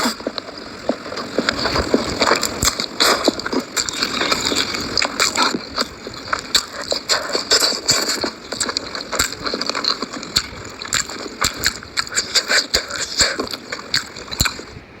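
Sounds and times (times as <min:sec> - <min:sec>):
noodles slurped and chewed: 0:00.0 - 0:14.8.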